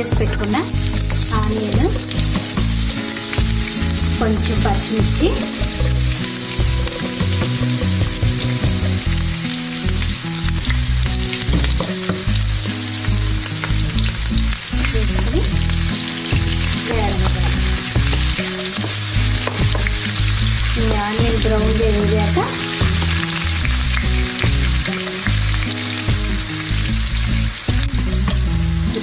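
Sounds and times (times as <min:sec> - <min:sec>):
onion sizzling in hot oil: 0:00.0 - 0:29.0.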